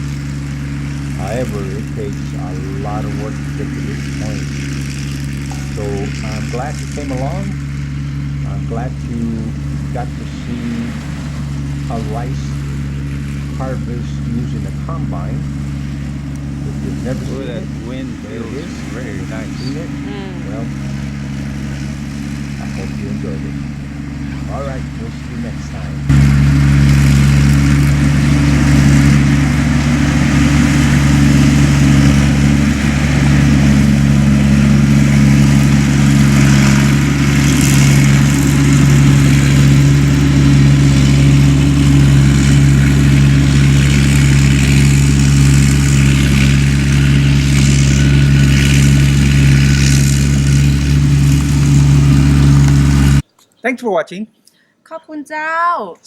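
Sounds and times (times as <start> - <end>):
diesel engine running under load: 0.0 - 53.2.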